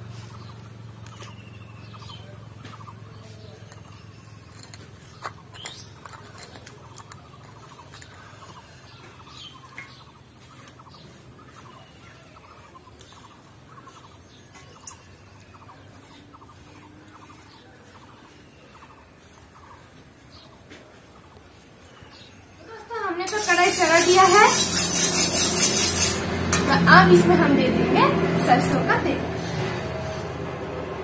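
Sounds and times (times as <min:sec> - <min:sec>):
birds calling: 0:00.0 - 0:26.6.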